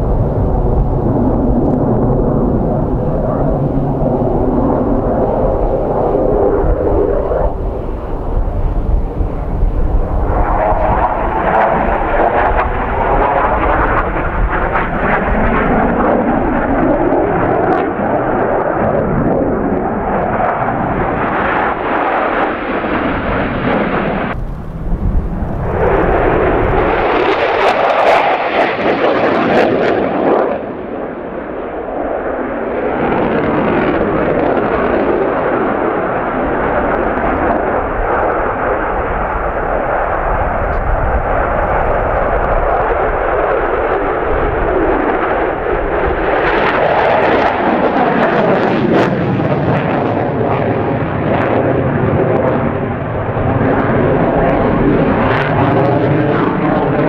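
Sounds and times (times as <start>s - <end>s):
jet engine passing: 0.0s - 57.0s.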